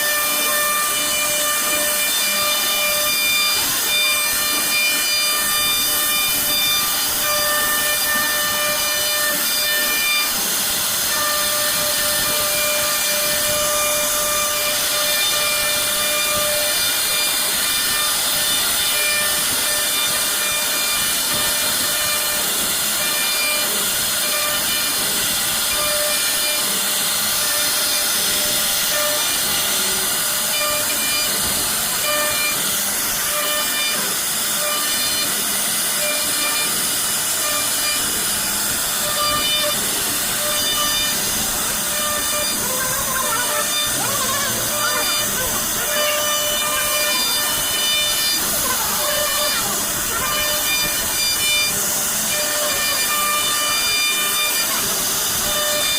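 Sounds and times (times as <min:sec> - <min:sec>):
router bit hissing in wood: 0:00.0 - 0:55.9.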